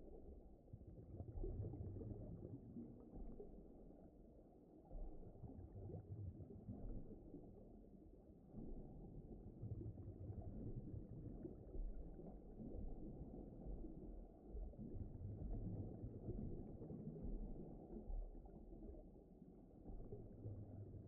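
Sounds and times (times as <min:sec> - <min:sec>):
low muffled underwater rumbling: 0:00.0 - 0:21.0.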